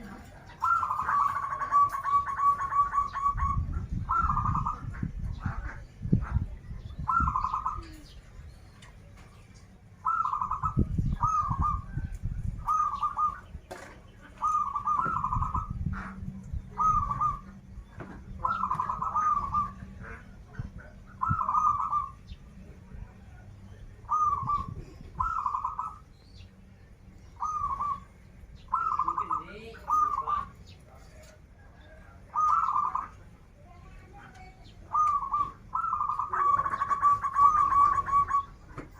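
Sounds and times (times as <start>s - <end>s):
dove cooing: 0.0s - 8.3s, 10.0s - 26.1s, 27.3s - 38.9s.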